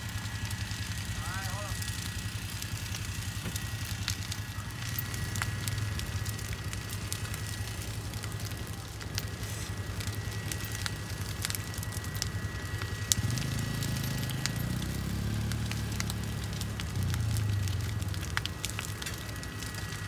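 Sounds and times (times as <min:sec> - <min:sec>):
bonfire popping and crackling: 0:00.0 - 0:20.0
fire low rumble: 0:00.0 - 0:20.0.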